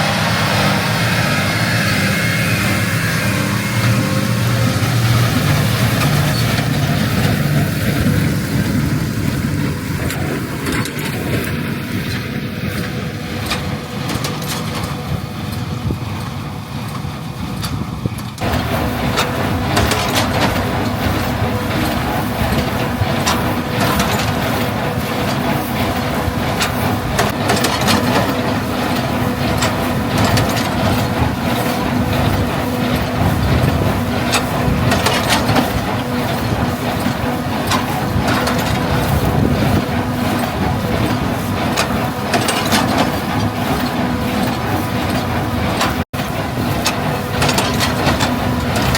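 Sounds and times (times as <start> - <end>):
machinery clatter with ticks and knocks: 0.0 - 48.9
tractor engine running: 0.0 - 48.9.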